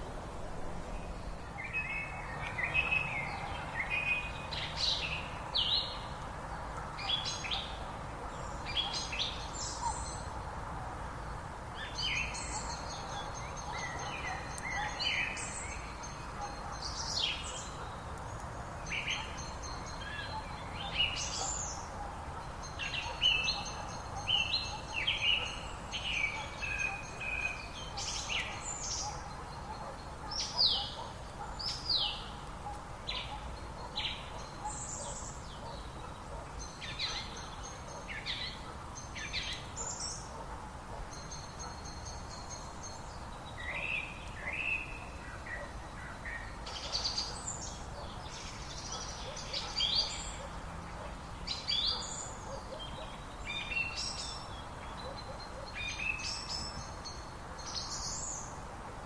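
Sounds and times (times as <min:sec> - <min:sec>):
birds chirping and singing: 0:00.9 - 0:10.3, 0:11.8 - 0:58.5.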